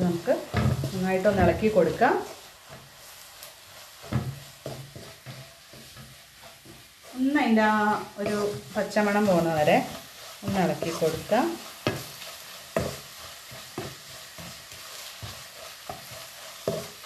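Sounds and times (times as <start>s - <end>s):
frying in oil sizzle: 0.0s - 17.0s
wooden spatula scraping pan: 0.0s - 17.0s.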